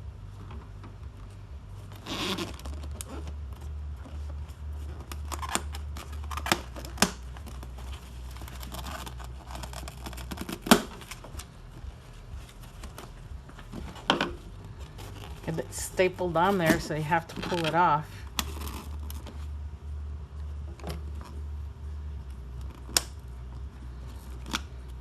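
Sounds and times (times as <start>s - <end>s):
low steady hum: 0.0s - 25.0s
rustling: 0.1s - 25.0s.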